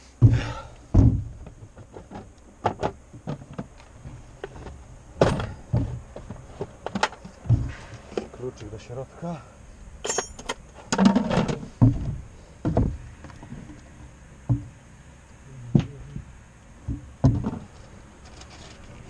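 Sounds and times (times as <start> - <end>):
gear knocking and clunking: 0.2 - 8.3, 10.4 - 14.8, 15.7 - 19.0.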